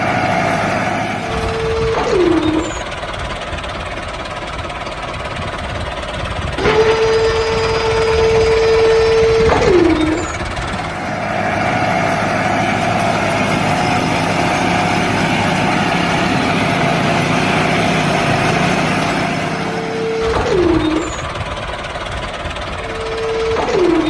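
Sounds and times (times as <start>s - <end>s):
high motor whine: 0.0s - 24.0s
small motor droning: 0.0s - 24.0s.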